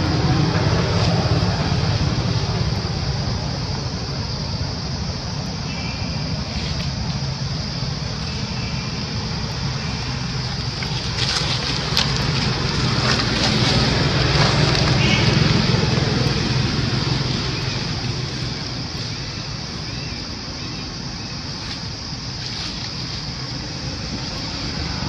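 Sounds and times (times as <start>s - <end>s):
motor engine humming: 0.0s - 25.0s
noisy wash: 0.0s - 25.0s.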